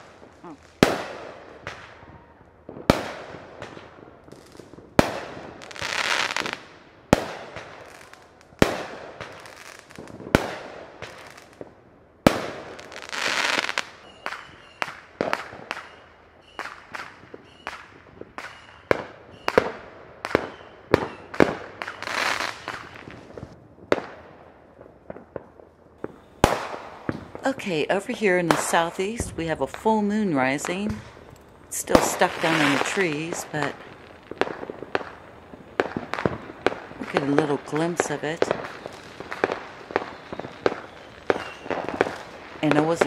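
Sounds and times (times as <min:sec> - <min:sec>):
firework bangs: 0:00.0 - 0:43.0.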